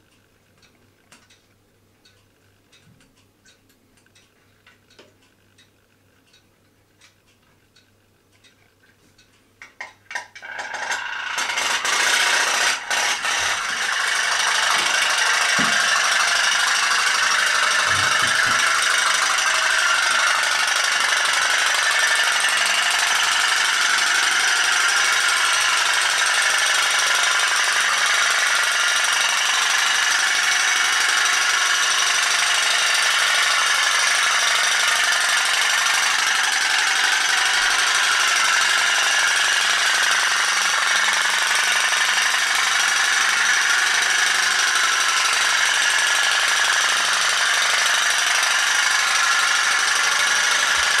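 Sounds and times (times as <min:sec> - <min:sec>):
toy boat engine putter: 0:09.6 - 0:51.0.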